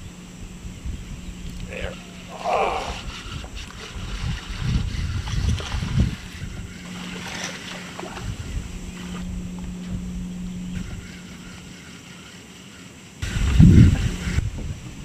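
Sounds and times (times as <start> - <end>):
wind buffeting microphone: 0.0 - 11.8, 13.2 - 15.0
electric motor humming: 0.0 - 15.0.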